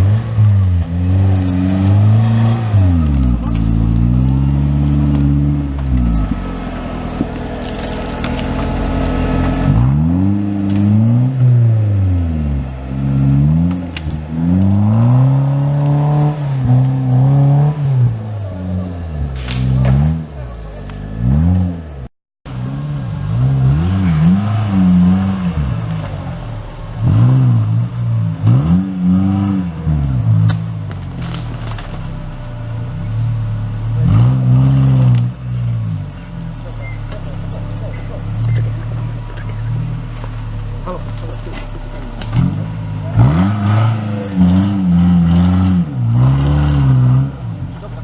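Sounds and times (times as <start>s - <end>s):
engine revving: 0.0s - 48.0s.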